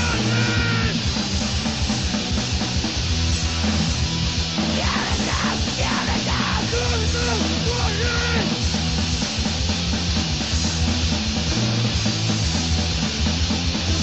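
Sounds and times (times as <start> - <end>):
punk band playing: 0.0 - 14.0.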